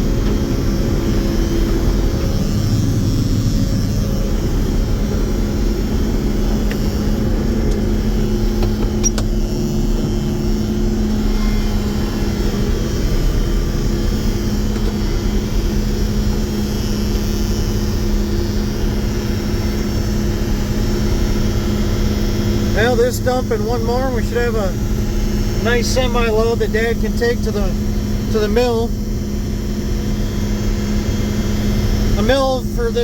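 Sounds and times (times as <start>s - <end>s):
combine harvester engine drone: 0.0s - 33.0s.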